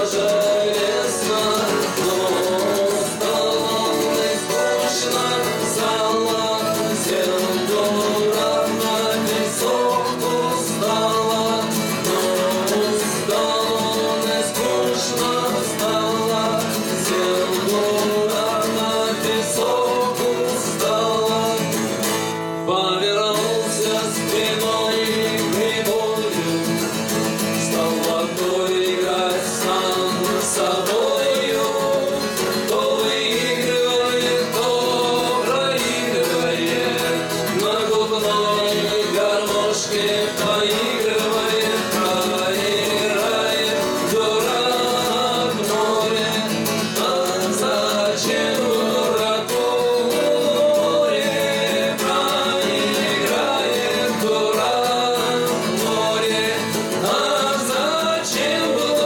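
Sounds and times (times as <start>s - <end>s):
acoustic guitars strumming: 0.0s - 59.0s
two men singing: 0.0s - 59.0s.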